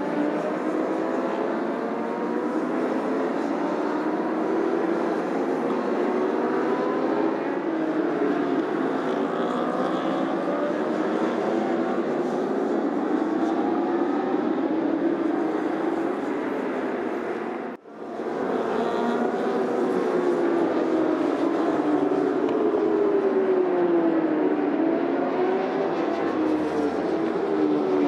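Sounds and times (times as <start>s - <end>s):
racing motorcycle engines: 0.0s - 28.0s.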